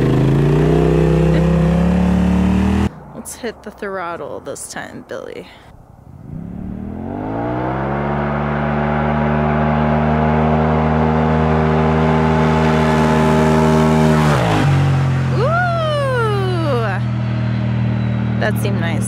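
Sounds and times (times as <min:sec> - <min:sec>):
engine at full throttle: 0:00.0 - 0:02.9, 0:06.2 - 0:19.0.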